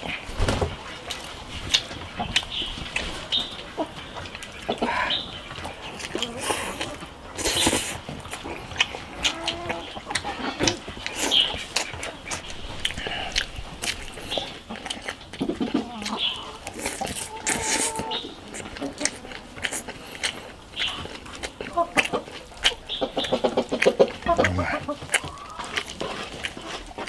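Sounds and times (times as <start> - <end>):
food crunching: 0.8 - 27.0
wet chewing and lip-smacking: 0.8 - 27.0.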